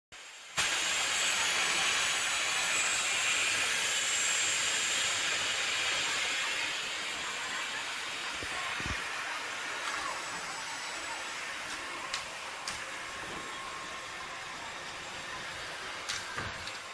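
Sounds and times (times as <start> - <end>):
vacuum cleaner running: 0.2 - 16.9.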